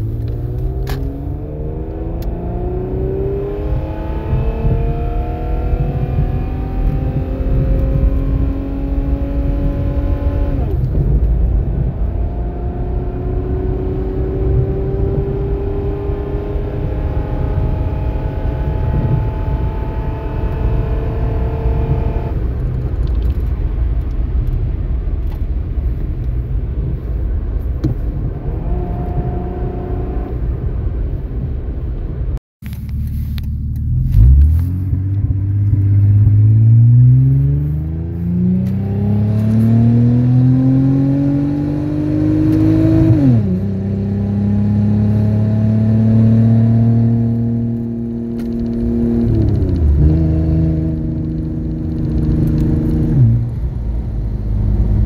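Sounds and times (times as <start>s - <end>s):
car engine accelerating: 0.0s - 24.8s, 32.6s - 55.0s.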